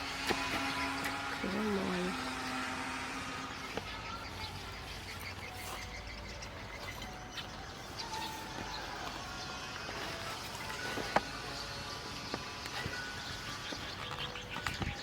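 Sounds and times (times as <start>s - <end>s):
low wavering sound: 0.0s - 15.0s
steady low hum: 0.0s - 15.0s.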